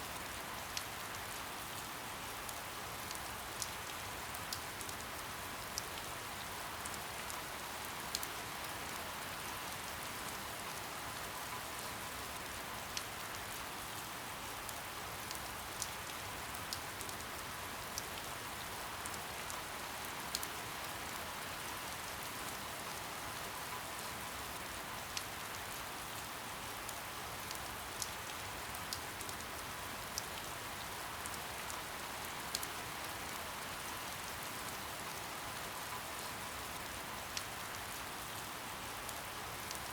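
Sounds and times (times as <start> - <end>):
gentle rain hissing: 0.0 - 39.9.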